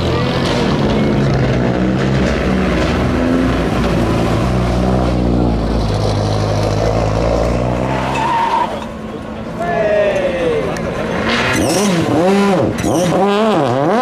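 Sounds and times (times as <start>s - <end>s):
racing car engine revving: 0.0s - 8.8s, 10.8s - 14.0s.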